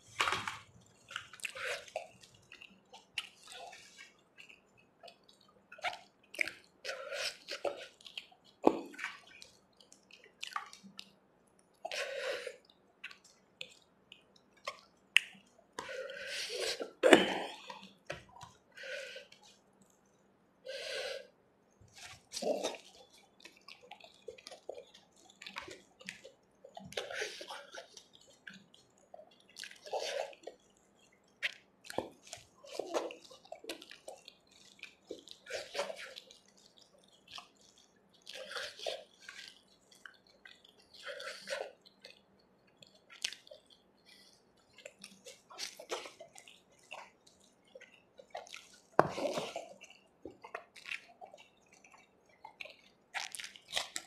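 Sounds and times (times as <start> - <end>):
fingers squishing food: 0.0 - 21.1, 21.8 - 54.0
wet chewing and mouth smacks: 0.0 - 54.0.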